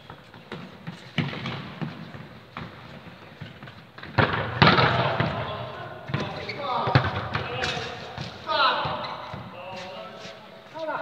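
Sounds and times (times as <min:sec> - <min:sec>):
football kicks echoing in hall: 0:00.0 - 0:11.0.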